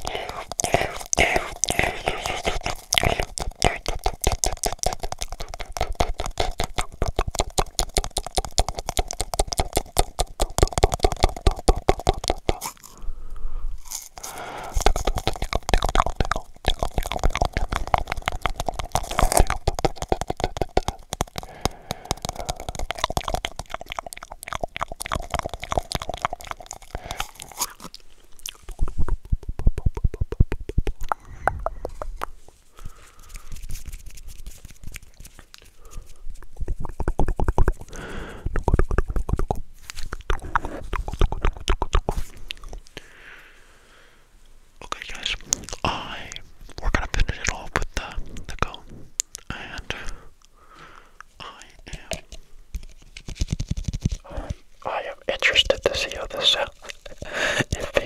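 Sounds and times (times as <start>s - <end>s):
mouth clicks and pops: 0.0s - 43.4s, 44.8s - 58.0s.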